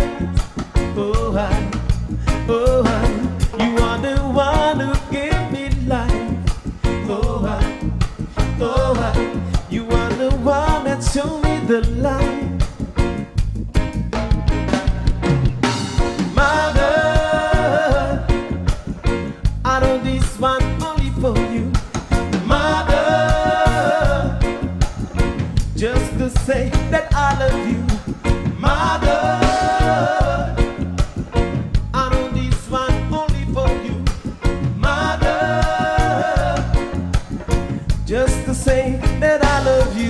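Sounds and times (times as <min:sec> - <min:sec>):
man singing: 0:00.0 - 0:12.8, 0:16.1 - 0:18.7, 0:19.5 - 0:24.9, 0:25.6 - 0:31.0, 0:31.9 - 0:40.0
reggae band playing: 0:00.0 - 0:40.0.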